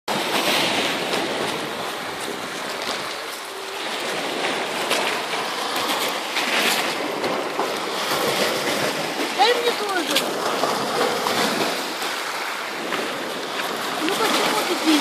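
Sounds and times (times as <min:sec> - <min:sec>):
waves washing onto pebbles: 0:00.1 - 0:15.0.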